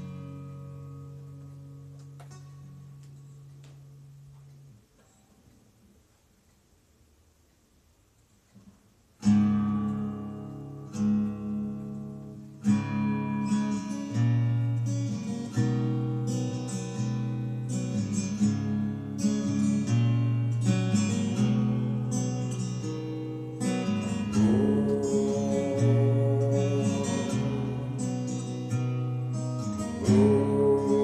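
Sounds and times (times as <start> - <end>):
acoustic guitar strumming: 0.0 - 4.8, 9.2 - 31.0.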